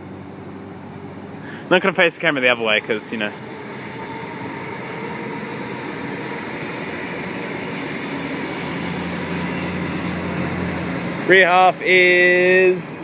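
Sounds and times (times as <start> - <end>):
low electric motor hum: 0.0 - 13.0
train wheels rumbling on rail: 0.0 - 13.0.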